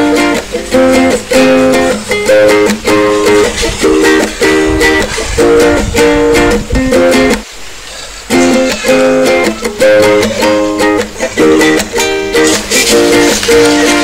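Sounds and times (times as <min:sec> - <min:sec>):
plucked-string tune: 0:00.0 - 0:14.0.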